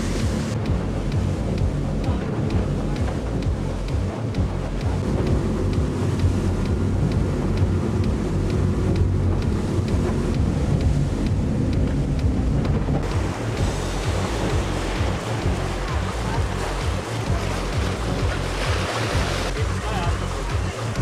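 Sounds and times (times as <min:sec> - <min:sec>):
motorboat engine running: 0:00.0 - 0:21.0
water rushing past hull: 0:00.0 - 0:21.0
wind buffeting microphone: 0:00.0 - 0:21.0.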